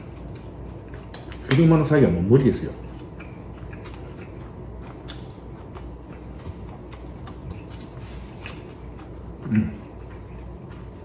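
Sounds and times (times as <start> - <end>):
person chewing food: 0.0 - 1.5, 2.8 - 11.0.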